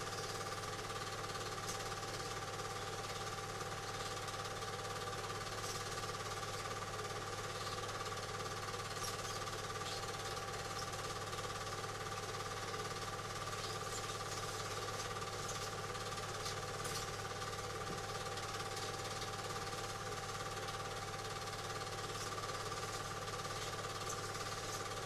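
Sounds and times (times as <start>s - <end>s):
film projector humming and clattering: 0.0s - 25.0s.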